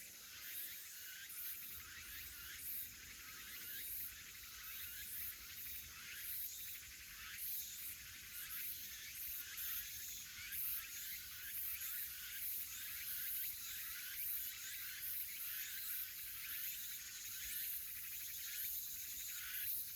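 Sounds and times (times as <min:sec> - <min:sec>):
insects chirping: 0:00.0 - 0:19.9.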